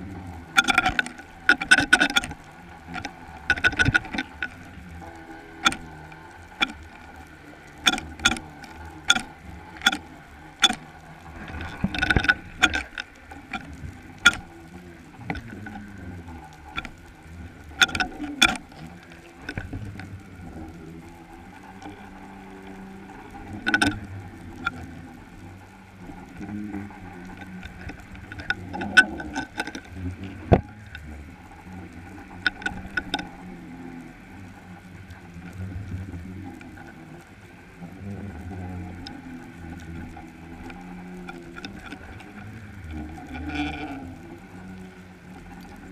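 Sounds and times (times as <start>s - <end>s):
low rumble with constant tones: 0.0s - 45.9s
sharp clicks and knocks underwater: 0.0s - 45.9s.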